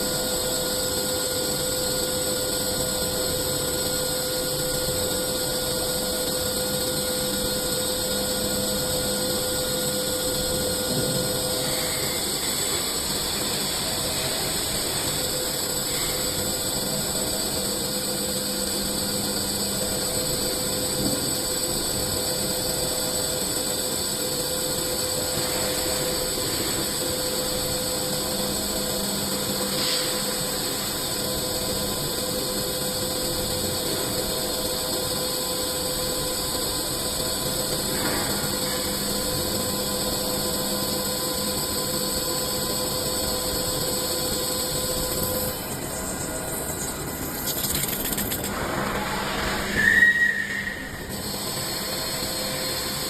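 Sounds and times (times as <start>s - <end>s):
lathe whining: 0.0s - 53.0s.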